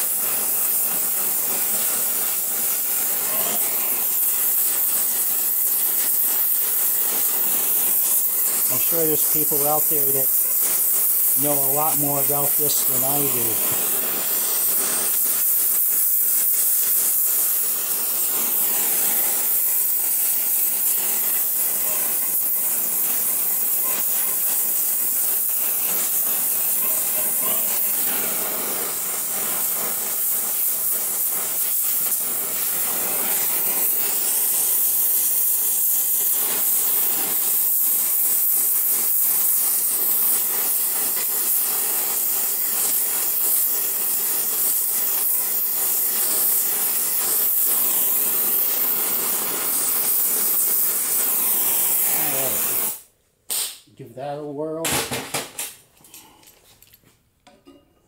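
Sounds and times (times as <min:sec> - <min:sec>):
gas torch hissing: 0:00.0 - 0:53.7.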